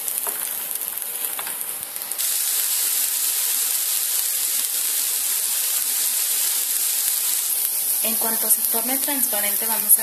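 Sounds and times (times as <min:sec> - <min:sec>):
onion sizzling in a frying pan: 0:00.0 - 0:10.0.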